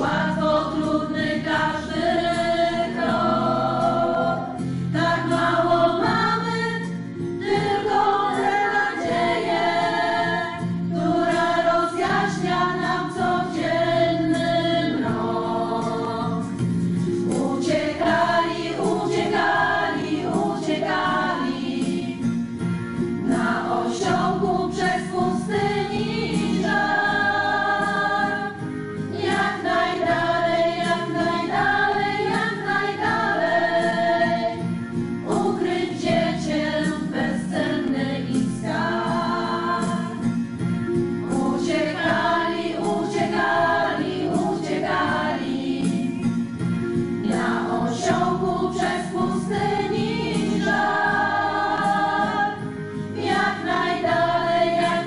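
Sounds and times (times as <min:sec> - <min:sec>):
choir singing through microphones: 0:00.0 - 0:55.0.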